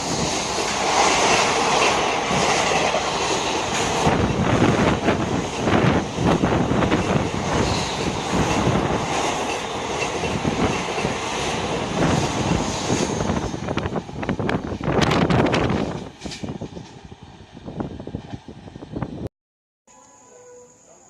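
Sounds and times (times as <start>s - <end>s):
train rumbling past at speed: 0.0s - 19.3s.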